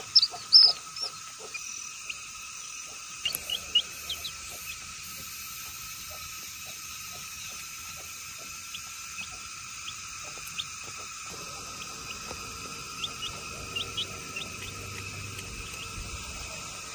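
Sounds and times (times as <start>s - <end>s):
chick peeping: 0.0s - 16.9s
steady background hum: 0.0s - 16.9s.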